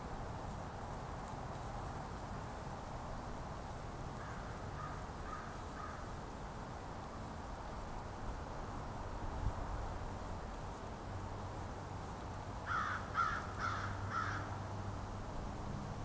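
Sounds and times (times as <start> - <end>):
forest ambience hiss: 0.0 - 16.0.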